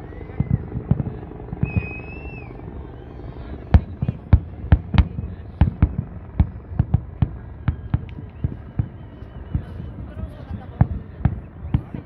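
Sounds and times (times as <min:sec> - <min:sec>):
fireworks bangs: 0:00.0 - 0:02.6, 0:03.6 - 0:12.0.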